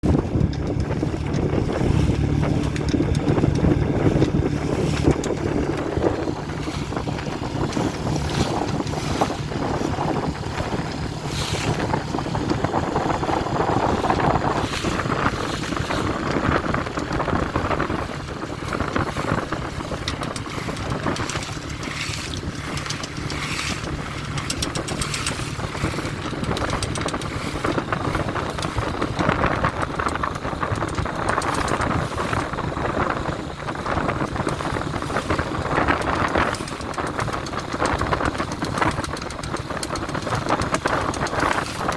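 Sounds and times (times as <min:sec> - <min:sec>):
outboard motor running: 0:00.0 - 0:41.9
wind gusts on microphone: 0:00.0 - 0:41.9.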